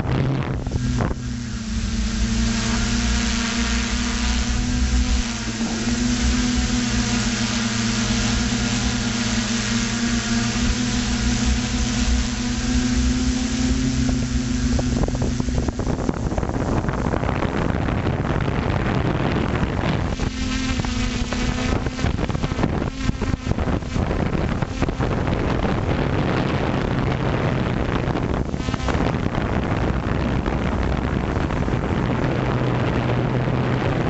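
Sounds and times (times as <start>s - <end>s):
drone motors whining: 0.0s - 34.0s
wind crackling over microphone: 0.0s - 34.0s.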